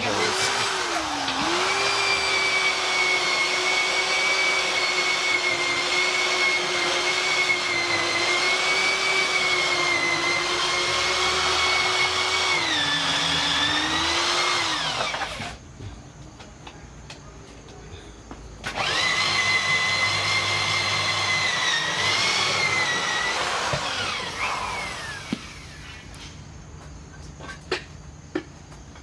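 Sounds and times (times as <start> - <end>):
electric drill whining: 0.0 - 15.6, 18.6 - 26.3.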